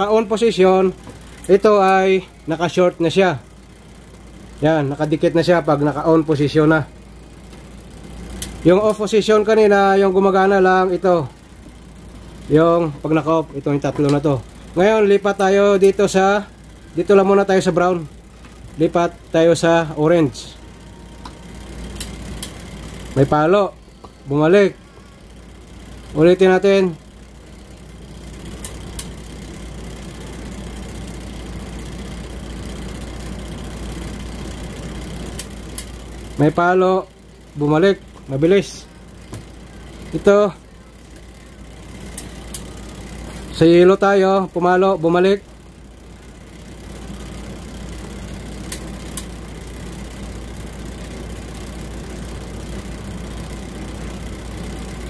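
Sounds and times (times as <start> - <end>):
low motor hum: 0.0 - 55.0.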